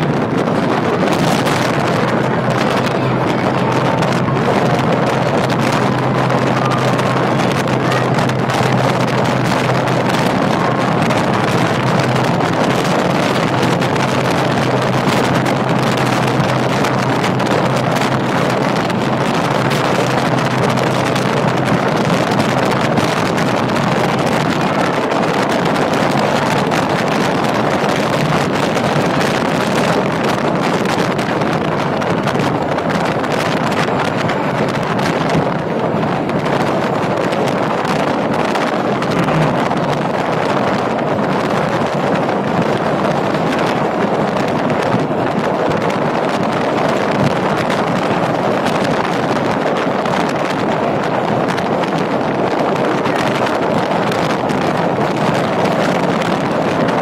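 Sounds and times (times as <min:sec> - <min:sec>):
train wheels rushing in tunnel: 0:00.0 - 0:57.0
wind buffeting microphone: 0:00.0 - 0:57.0.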